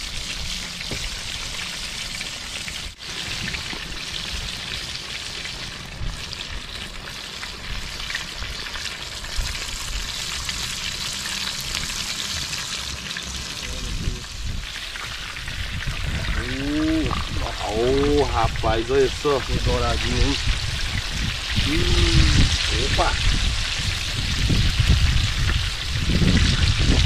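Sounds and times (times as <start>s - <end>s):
fish deep-frying in oil: 0.0s - 27.0s.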